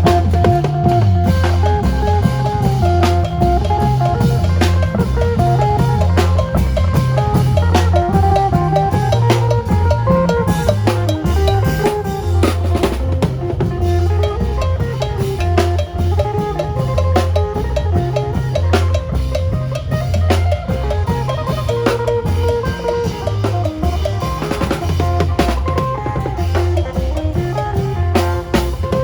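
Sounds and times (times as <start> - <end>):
drum kit beat: 0.0 - 29.0
heavy bass notes: 0.0 - 29.0.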